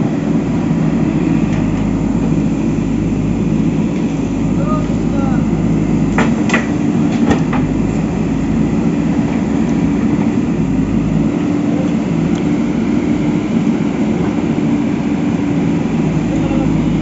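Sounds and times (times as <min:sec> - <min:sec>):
machine droning: 0:00.0 - 0:17.0.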